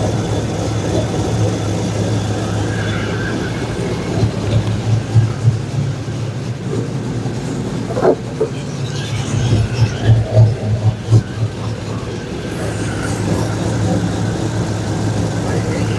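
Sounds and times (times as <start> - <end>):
truck engine idling unevenly: 0.0 - 15.9.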